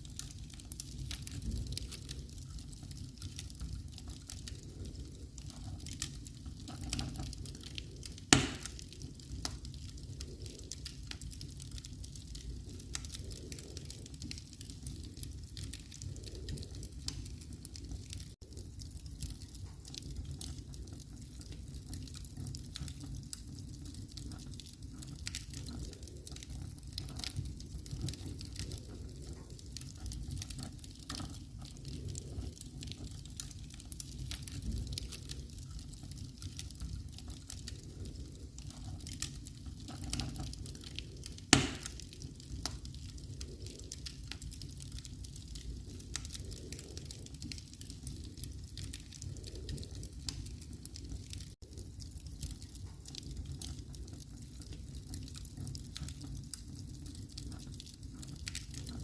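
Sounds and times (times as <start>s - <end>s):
wood fire crackling: 0.0s - 59.0s
fire pops: 0.1s - 59.0s.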